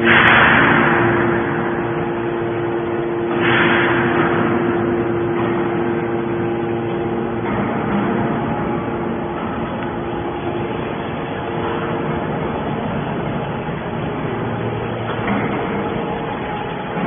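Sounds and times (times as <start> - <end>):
hydraulic power unit humming: 0.0 - 17.0.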